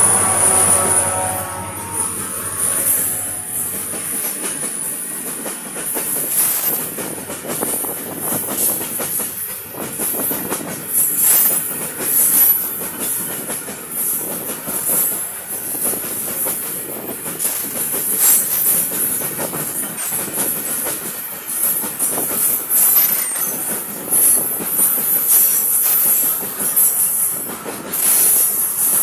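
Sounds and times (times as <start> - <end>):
freight train rolling past: 0.0 - 29.0
train wheels clattering over rail joints: 3.6 - 29.0.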